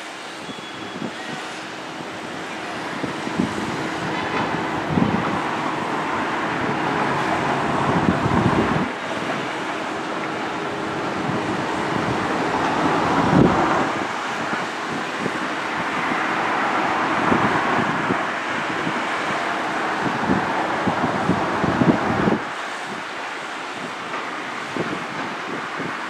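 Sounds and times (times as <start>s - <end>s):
rumble of passing vehicles: 0.0s - 26.0s.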